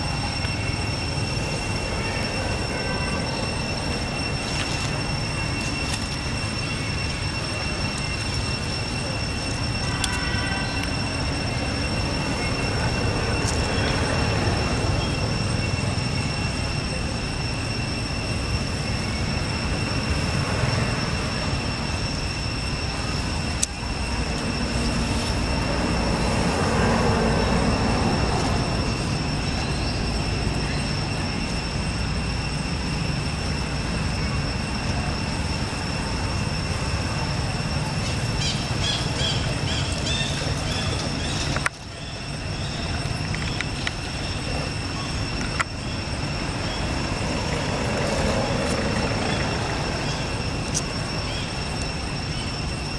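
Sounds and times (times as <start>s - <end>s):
high-pitched whine: 0.0s - 52.9s
road traffic rumble: 0.0s - 52.9s.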